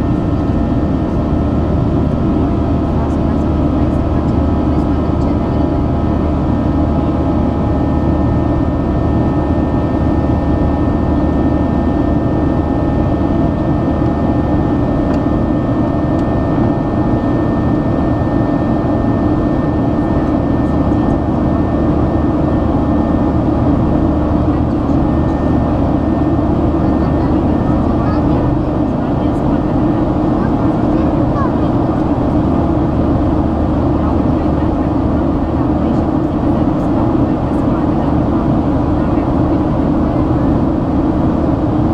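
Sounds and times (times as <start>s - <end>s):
jet engine deep rumble in cabin: 0.0s - 41.9s
steady whining engine tones: 0.0s - 41.9s.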